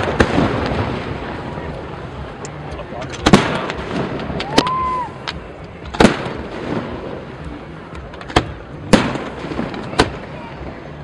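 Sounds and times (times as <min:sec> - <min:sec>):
firework bangs: 0:00.0 - 0:02.4, 0:03.0 - 0:11.0
faint firework crackles: 0:00.0 - 0:11.0.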